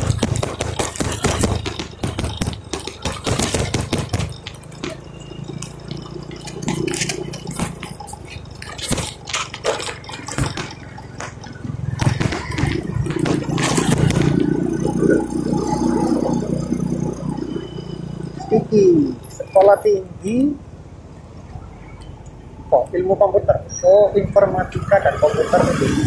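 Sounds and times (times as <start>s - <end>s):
motorcycle engine hum: 0.0s - 26.0s.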